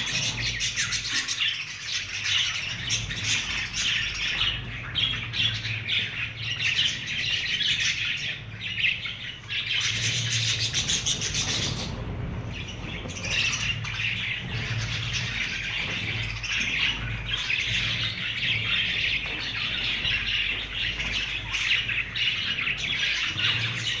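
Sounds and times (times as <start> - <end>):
budgerigars chirping and chattering: 0.0 - 24.0.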